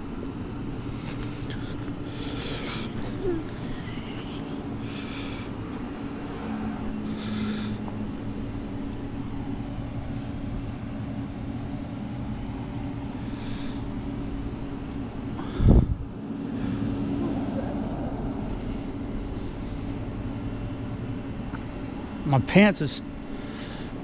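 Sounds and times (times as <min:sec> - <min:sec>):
vehicle engines idling: 0:00.0 - 0:24.0.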